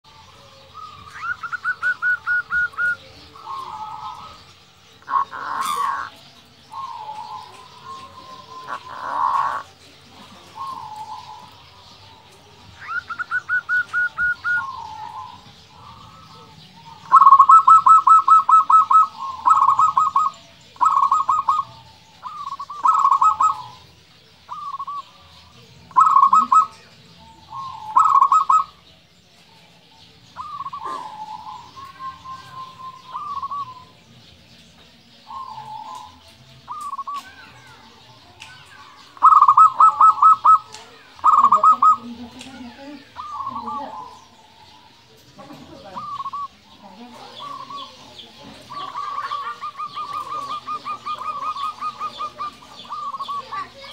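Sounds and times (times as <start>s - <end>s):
dove cooing: 0.0s - 28.9s, 29.5s - 34.1s, 35.2s - 37.8s, 38.8s - 53.9s.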